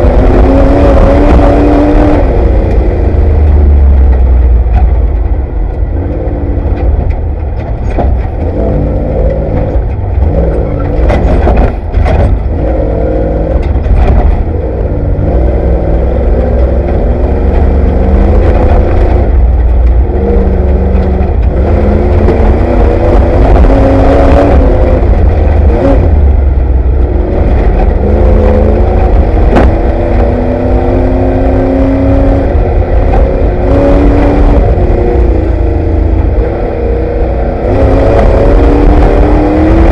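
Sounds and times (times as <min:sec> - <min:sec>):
engine revving and dropping: 0:00.0 - 0:04.9, 0:05.9 - 0:39.9
knocks and clatter over rough ground: 0:00.0 - 0:39.9.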